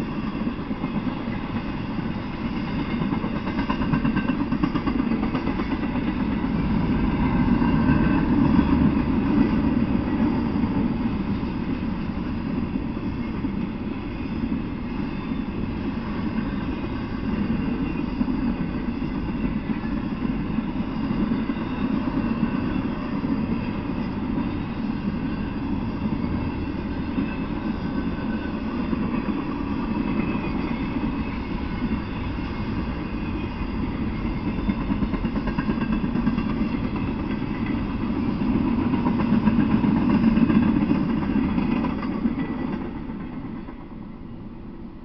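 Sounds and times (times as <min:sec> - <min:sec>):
freight train rumbling past: 0:00.0 - 0:45.0.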